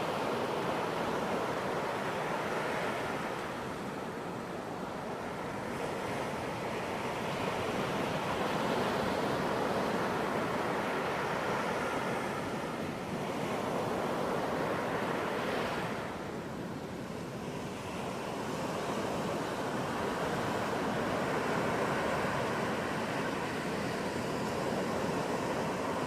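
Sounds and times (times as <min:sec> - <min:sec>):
ocean waves breaking on a beach: 0:00.0 - 0:26.0.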